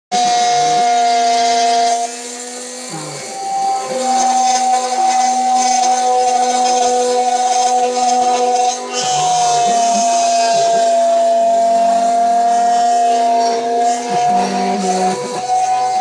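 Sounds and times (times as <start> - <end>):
rotary tool high whine: 0.1 - 16.0
low motor hum: 0.2 - 16.0.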